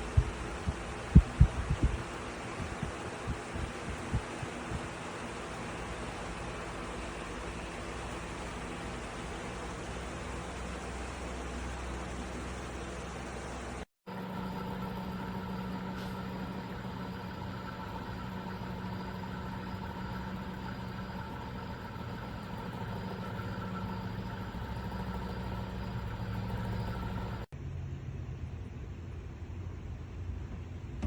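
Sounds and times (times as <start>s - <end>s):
fan whoosh and motor hum: 0.0s - 31.0s.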